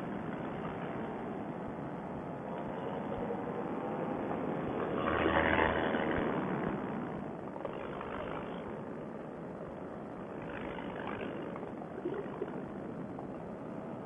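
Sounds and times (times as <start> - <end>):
paramotor engine droning: 0.0 - 14.0.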